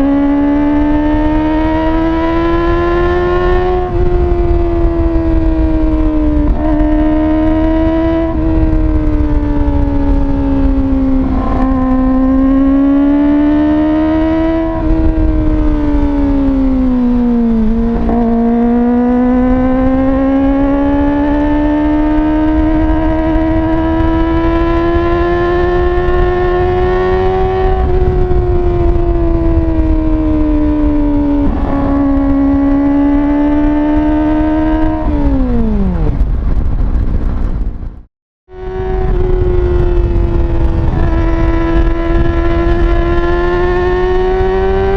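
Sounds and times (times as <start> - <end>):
motorcycle engine revving high: 0.0 - 44.9.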